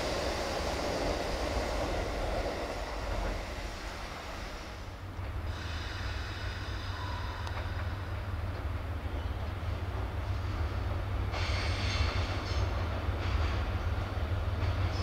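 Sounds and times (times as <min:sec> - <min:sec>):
electric train running past: 0:00.0 - 0:15.0.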